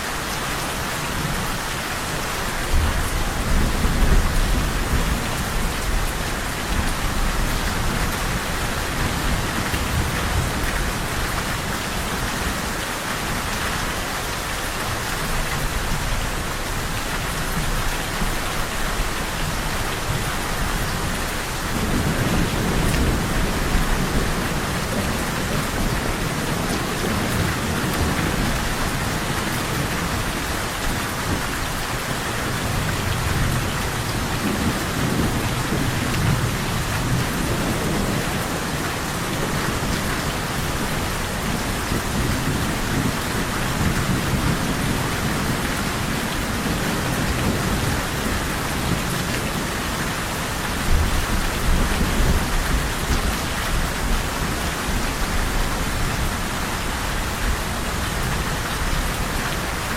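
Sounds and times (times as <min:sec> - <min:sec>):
heavy rain falling: 0:00.0 - 0:59.9
low rolling thunder: 0:02.2 - 0:12.6, 0:19.9 - 0:59.3.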